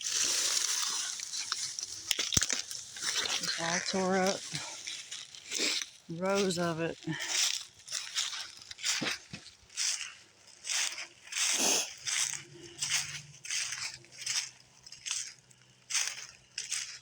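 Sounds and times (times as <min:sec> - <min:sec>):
footsteps crunching through corn stalks: 0:00.0 - 0:17.0.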